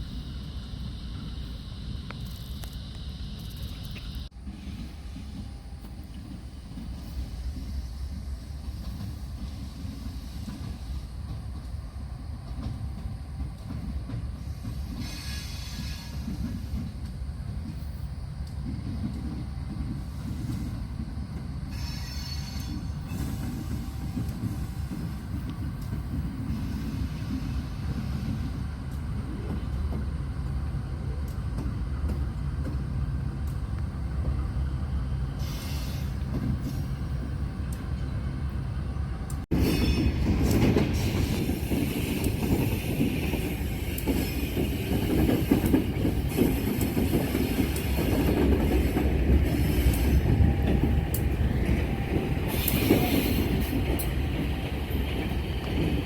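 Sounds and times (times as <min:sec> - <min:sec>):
freight train rumbling on rails: 0:00.0 - 0:56.0.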